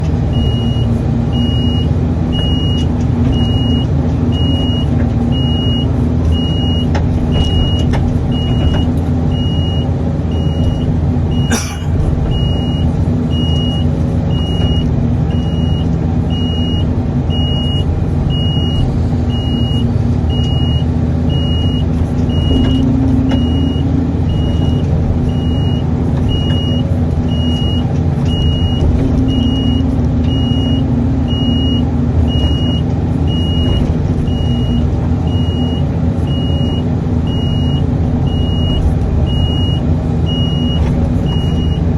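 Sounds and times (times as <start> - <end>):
excavator diesel engine running: 0.0 - 41.9
travel alarm high beeps: 0.4 - 11.5, 12.3 - 41.8.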